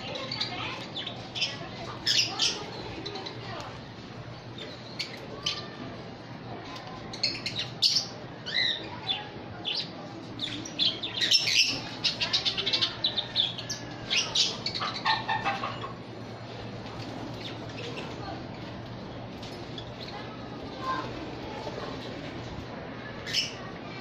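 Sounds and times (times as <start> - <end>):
parrots chirping and squawking: 0.0 - 23.7.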